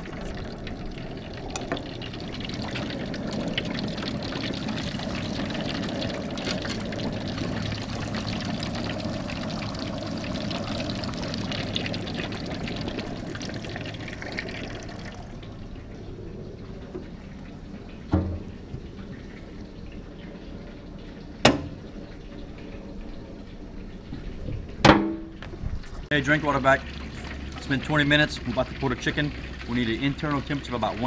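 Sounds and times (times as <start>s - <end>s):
oil bubbling and sizzling: 0.0s - 31.0s.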